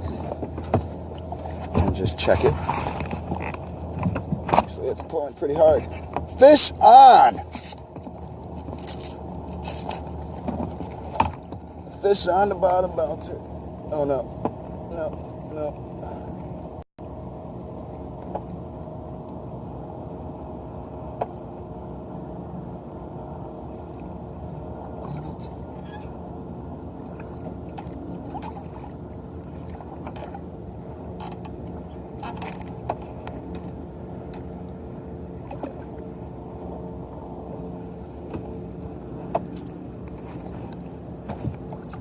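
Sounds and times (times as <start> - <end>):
faint hum: 0.0 - 42.0
water and wind rumble: 0.0 - 42.0.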